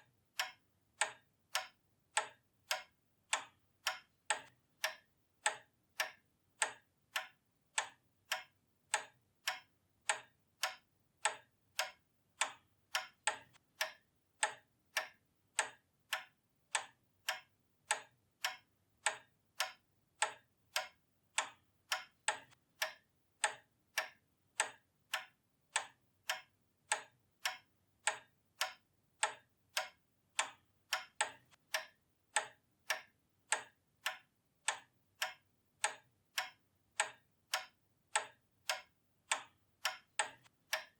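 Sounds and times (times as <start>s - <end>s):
pendulum clock ticking: 0.0s - 40.9s.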